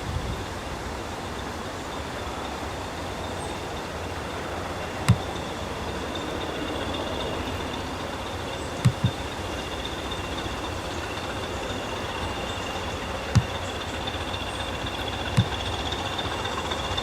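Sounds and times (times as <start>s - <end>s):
train rumbling: 0.0s - 17.0s
wheels knocking on rail joint: 2.9s - 17.0s.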